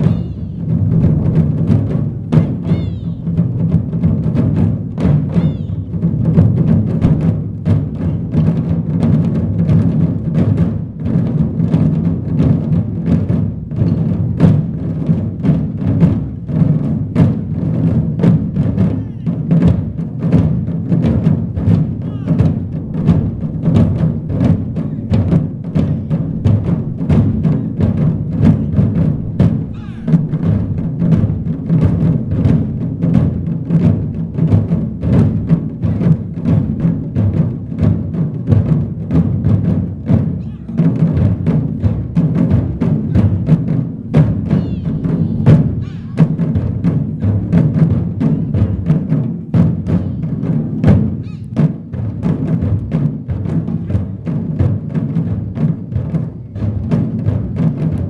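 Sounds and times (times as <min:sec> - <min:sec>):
drum ensemble playing: 0:00.0 - 0:58.0.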